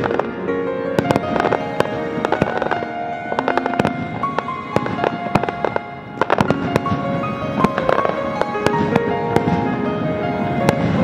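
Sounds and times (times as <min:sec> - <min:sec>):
fireworks cracking and popping: 0:00.0 - 0:00.4, 0:01.0 - 0:11.0
music with held notes: 0:00.0 - 0:11.0.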